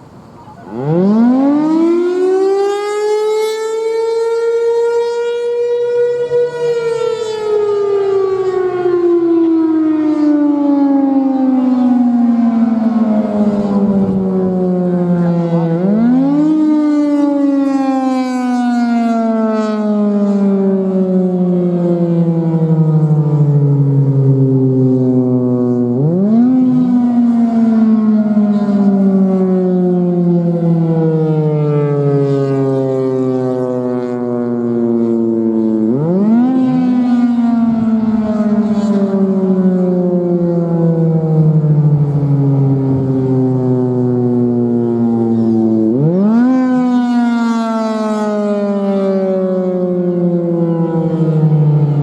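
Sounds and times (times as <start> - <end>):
outdoor warning siren: 0.0 - 52.0.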